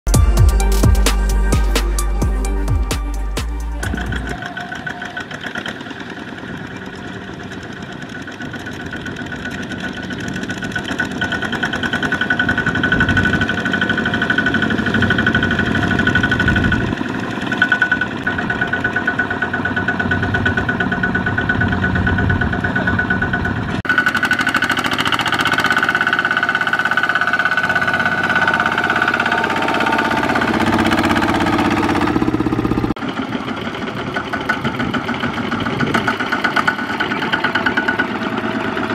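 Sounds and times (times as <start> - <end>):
diesel tractor engines chugging: 0.1 - 38.9.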